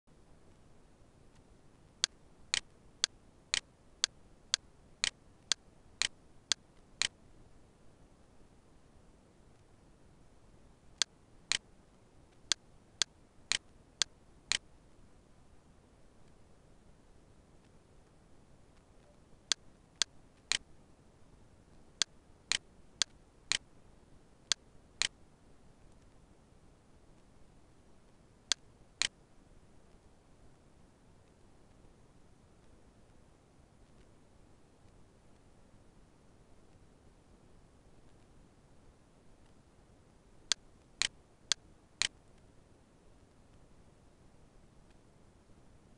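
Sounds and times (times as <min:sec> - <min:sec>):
faint background hiss: 0:00.1 - 0:45.9.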